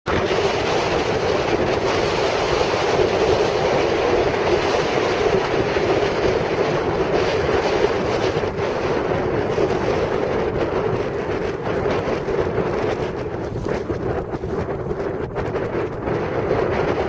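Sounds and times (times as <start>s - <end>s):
wind buffeting microphone: 0.1s - 17.0s.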